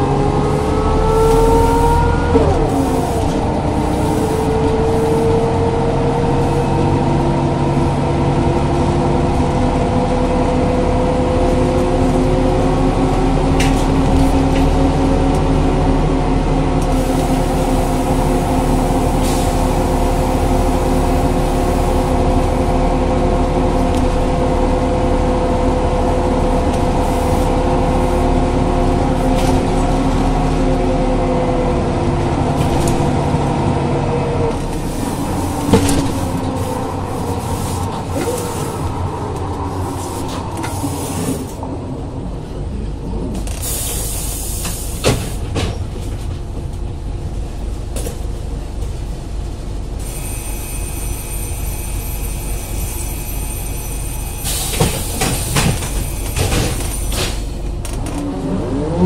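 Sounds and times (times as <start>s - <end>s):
bus engine and gearbox whine: 0.0s - 59.0s.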